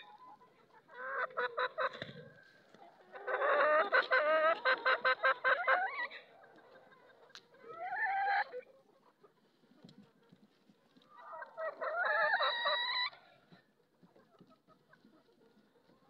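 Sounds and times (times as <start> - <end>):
hen clucking: 0.0 - 16.0.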